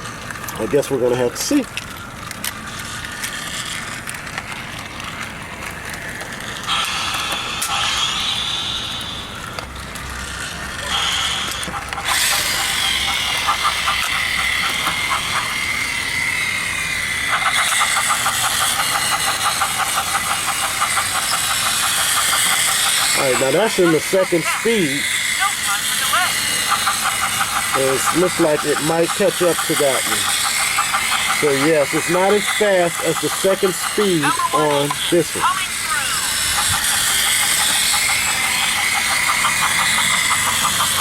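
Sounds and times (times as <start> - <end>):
rattle of wheels and gears: 0.0 - 41.0
toy train motor whine: 0.0 - 41.0.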